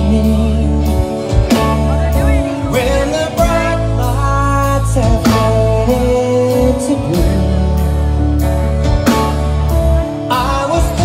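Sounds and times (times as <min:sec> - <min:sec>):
live rock band playing: 0:00.0 - 0:11.0
person singing: 0:00.0 - 0:11.0.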